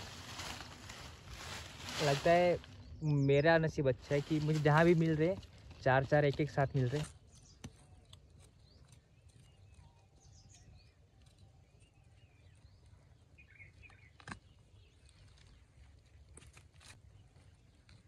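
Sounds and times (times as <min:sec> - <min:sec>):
birds chirping faintly: 0:00.0 - 0:16.3
scraping of soil and dry leaves: 0:00.0 - 0:18.0.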